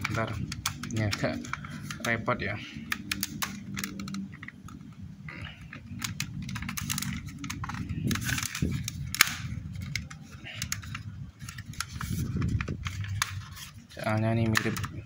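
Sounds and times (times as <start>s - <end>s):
toy pistol clicks and rattles: 0.0s - 2.2s, 2.8s - 4.8s, 5.6s - 13.7s
steady low hum: 0.0s - 15.0s.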